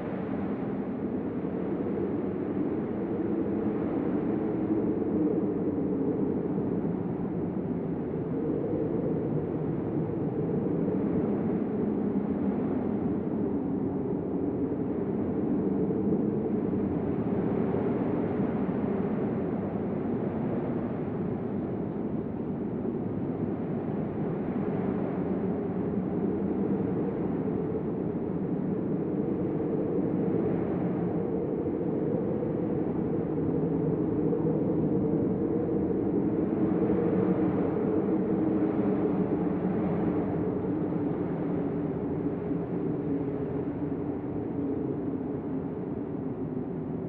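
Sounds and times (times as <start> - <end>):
deep storm wind rumbling: 0.0 - 47.0.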